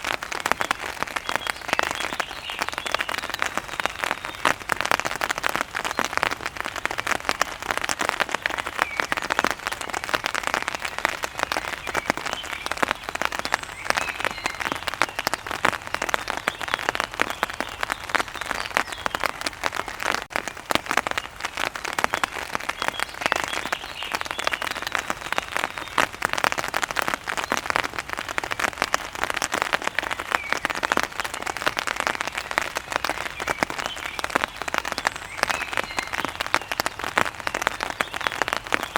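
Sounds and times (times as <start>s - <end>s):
rain pattering on an umbrella: 0.0s - 38.9s.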